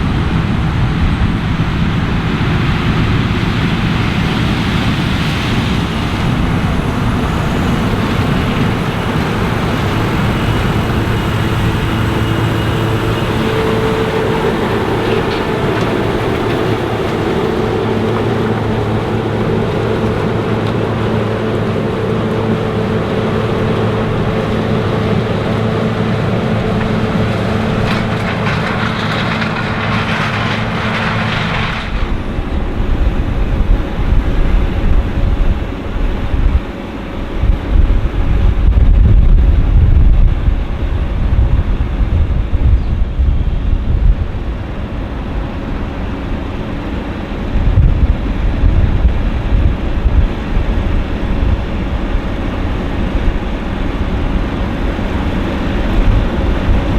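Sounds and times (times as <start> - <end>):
combine engine drone: 0.0 - 56.9
threshing machinery noise: 0.0 - 56.9
wind buffeting microphone: 0.0 - 56.9.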